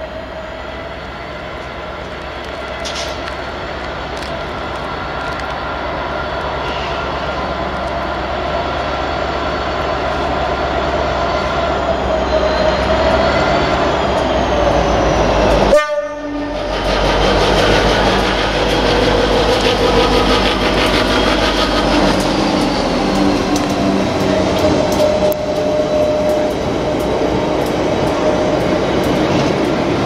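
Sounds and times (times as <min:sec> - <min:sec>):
diesel locomotive engine rumble: 0:00.0 - 0:30.0.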